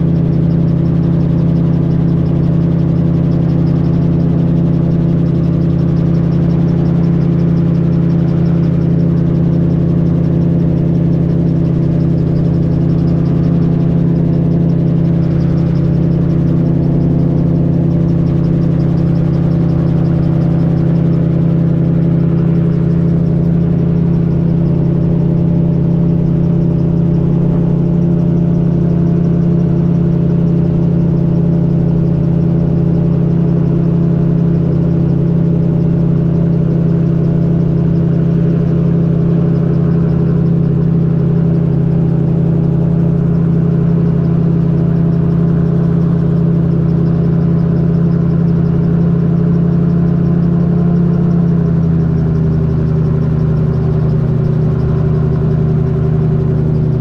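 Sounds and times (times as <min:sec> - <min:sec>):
gyrocopter engine and propeller droning: 0:00.0 - 0:57.0.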